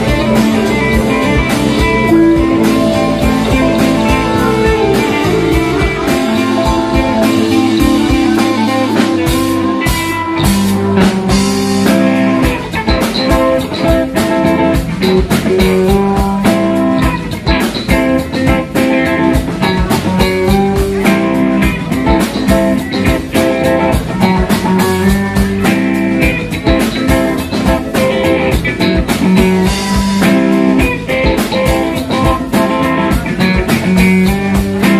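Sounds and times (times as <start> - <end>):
bass guitar: 0.0 - 34.9
drum kit beat: 0.0 - 34.9
electric guitar: 0.0 - 34.9.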